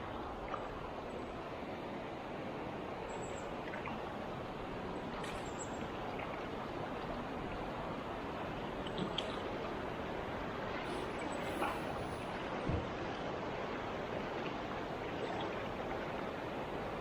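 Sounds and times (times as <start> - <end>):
flowing stream rushing: 0.0 - 17.0.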